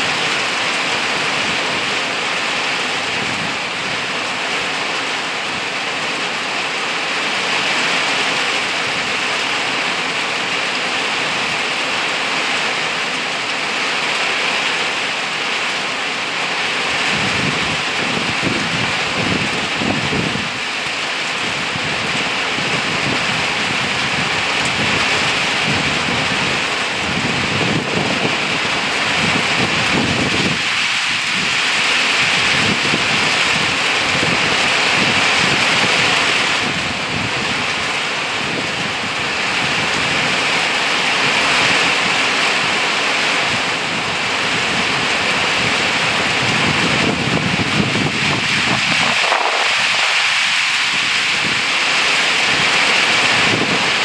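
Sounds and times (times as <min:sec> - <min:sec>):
rain on leaves: 0:00.0 - 0:54.0.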